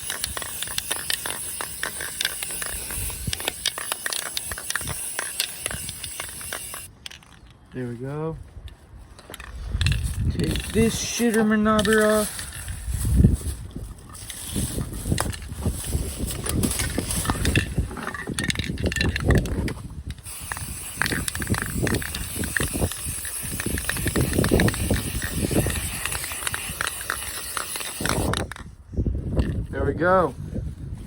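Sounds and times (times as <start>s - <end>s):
hands clicking and rattling a part: 0.0s - 7.6s, 8.6s - 28.7s.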